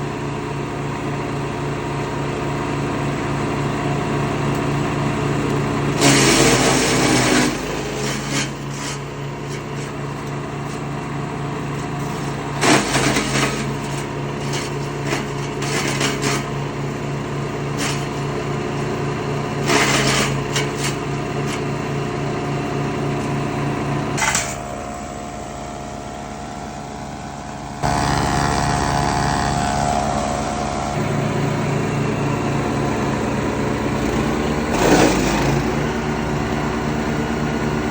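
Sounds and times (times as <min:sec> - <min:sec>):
woodchipper running: 0:00.0 - 0:37.9.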